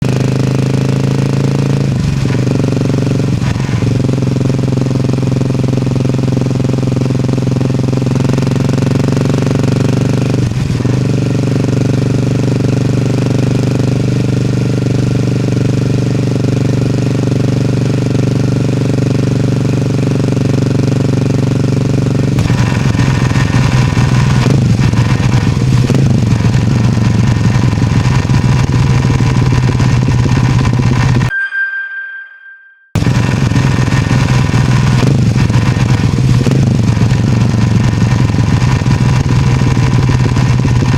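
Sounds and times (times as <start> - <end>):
engine and transmission droning: 0.0 - 31.3, 33.0 - 40.9.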